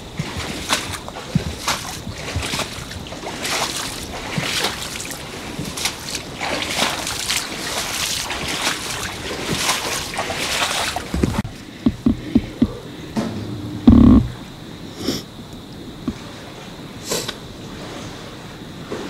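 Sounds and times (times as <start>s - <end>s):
sloshing steps through floodwater: 0.0s - 14.7s, 16.0s - 19.0s.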